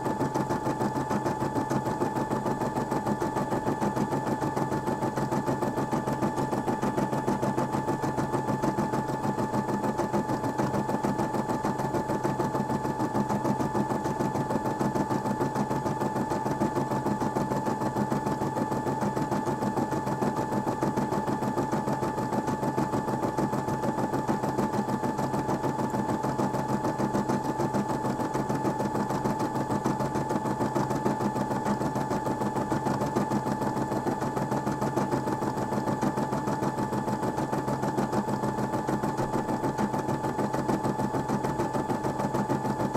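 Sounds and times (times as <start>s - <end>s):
embroidery machine stitching: 0.0s - 42.9s.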